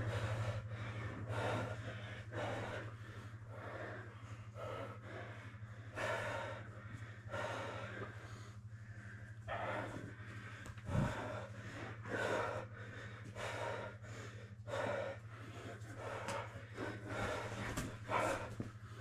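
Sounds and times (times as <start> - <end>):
heavy breathing and gasps: 0.0 - 19.0
steady low hum: 0.0 - 19.0.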